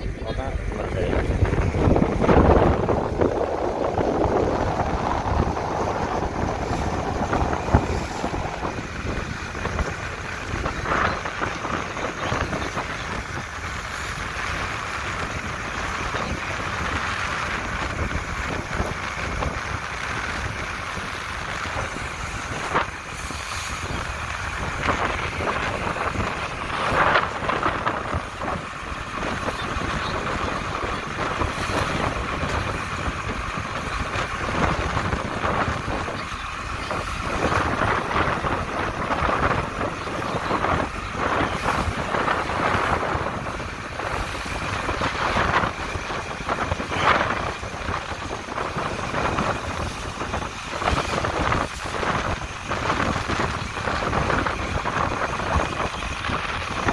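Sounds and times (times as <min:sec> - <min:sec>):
water rushing along hull: 0:00.0 - 0:56.9
wind buffeting microphone: 0:00.0 - 0:56.9.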